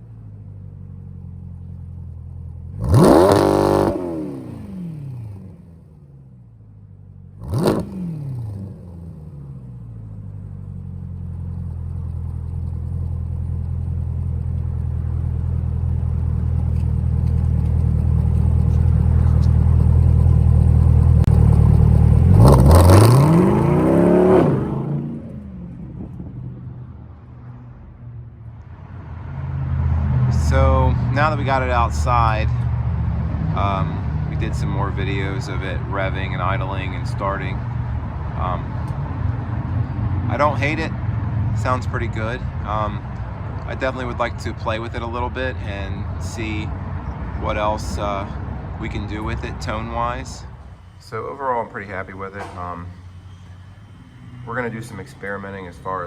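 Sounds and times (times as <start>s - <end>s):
car engine revving: 2.6s - 6.2s, 7.3s - 56.0s.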